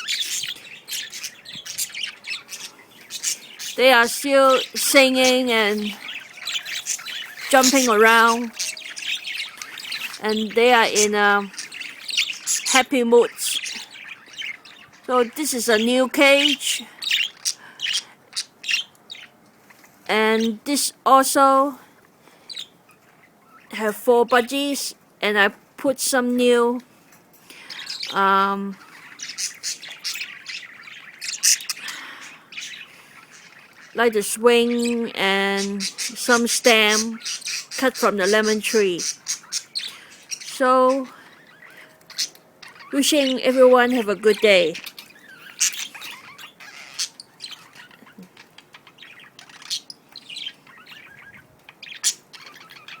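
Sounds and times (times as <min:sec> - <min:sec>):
budgerigars chirping and warbling: 0:00.0 - 0:20.9, 0:22.4 - 0:24.6, 0:27.5 - 0:53.0.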